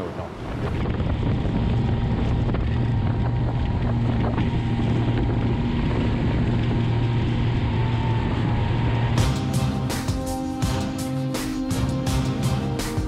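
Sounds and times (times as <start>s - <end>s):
wind on microphone: 0.0s - 11.1s
outboard engines humming: 0.0s - 13.0s.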